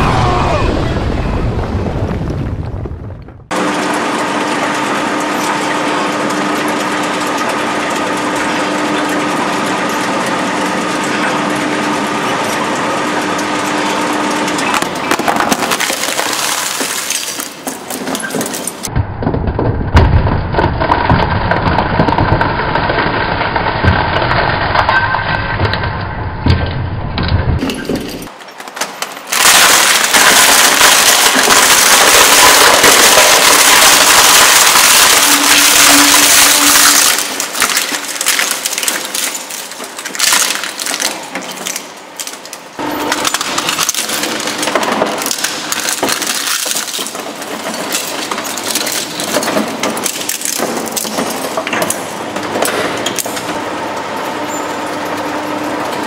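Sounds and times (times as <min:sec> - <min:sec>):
shredder cutters crunching objects: 0:03.5 - 0:18.9, 0:20.6 - 0:24.9, 0:28.2 - 0:56.0.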